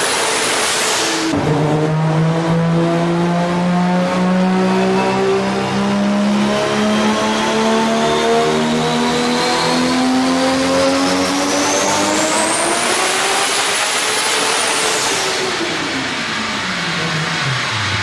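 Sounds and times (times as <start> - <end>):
high turbo whine: 0.0 - 18.0.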